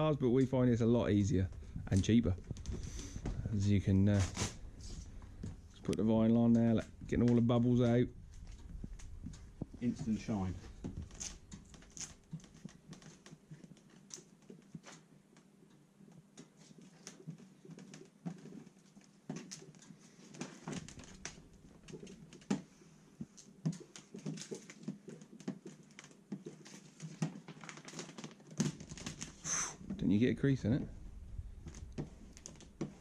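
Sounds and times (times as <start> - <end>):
vinyl film crackling and clicking: 0.0 - 33.0.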